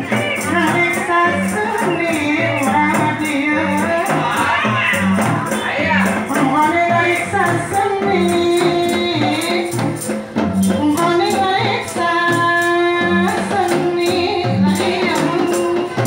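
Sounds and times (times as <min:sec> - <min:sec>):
hand drums steady rhythm: 0:00.0 - 0:16.0
woman singing into microphone: 0:00.0 - 0:16.0.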